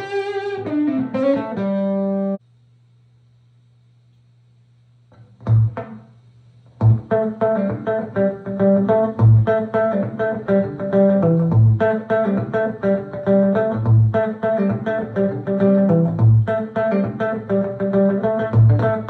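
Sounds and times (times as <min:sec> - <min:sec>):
electric guitar licks with delay: 0:00.0 - 0:02.4, 0:05.2 - 0:06.0, 0:06.8 - 0:19.0
faint amp hum: 0:00.0 - 0:19.0.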